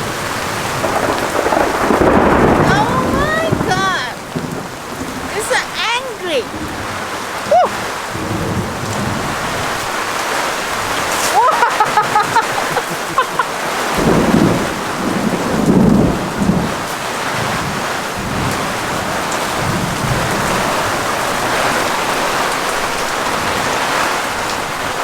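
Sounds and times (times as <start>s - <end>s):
thunder rumbling: 0.0s - 5.8s, 6.4s - 23.9s
rain falling steadily: 0.0s - 25.0s.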